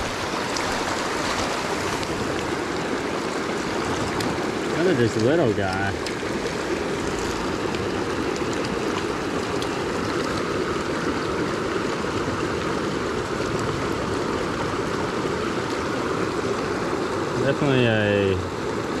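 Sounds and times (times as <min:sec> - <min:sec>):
creek flowing over stones: 0:00.0 - 0:19.0.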